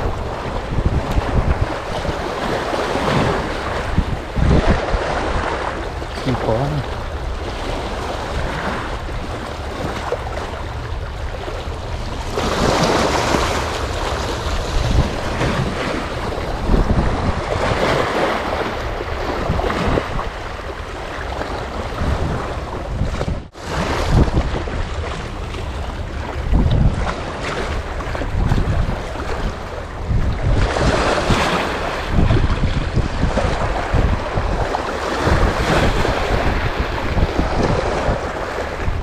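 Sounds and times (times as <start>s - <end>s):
sea waves: 0.0s - 39.0s
wind buffeting microphone: 0.0s - 39.0s.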